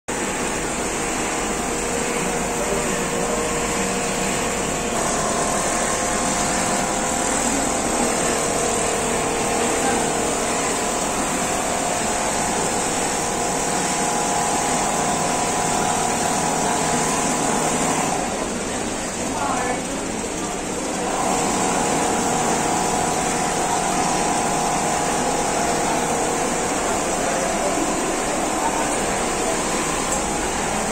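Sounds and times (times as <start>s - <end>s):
quilting machine humming: 0.1s - 30.9s.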